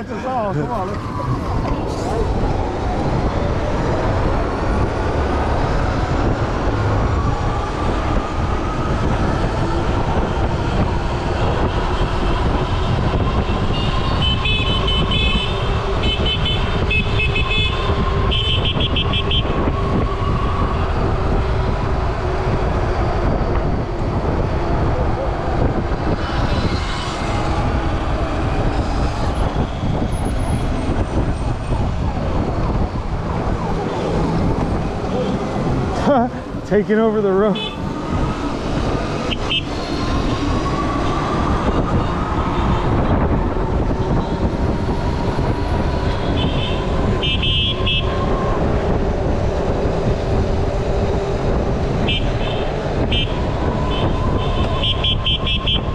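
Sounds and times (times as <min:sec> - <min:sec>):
road rumble: 0:00.0 - 0:55.9
wind rushing over microphone: 0:00.0 - 0:55.9.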